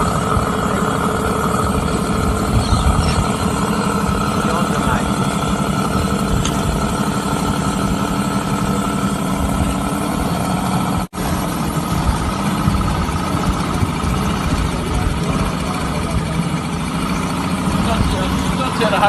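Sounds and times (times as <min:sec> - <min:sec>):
small petrol engine idling: 0:00.0 - 0:19.0.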